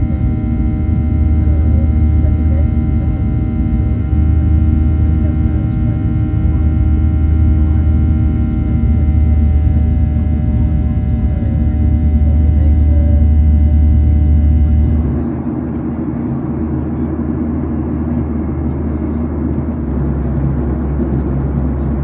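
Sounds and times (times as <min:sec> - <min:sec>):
jet engine rumble with whining: 0:00.0 - 0:22.0.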